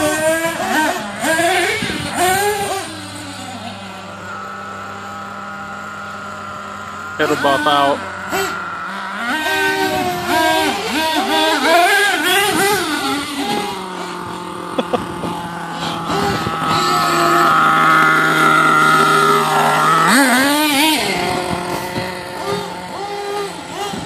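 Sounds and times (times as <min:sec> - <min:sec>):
small nitro engine revving: 0:00.0 - 0:24.0.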